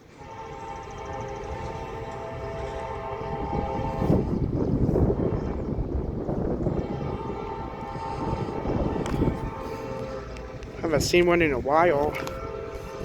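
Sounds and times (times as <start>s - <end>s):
train horn chord: 0.0s - 13.0s
train rumbling past: 0.0s - 13.0s.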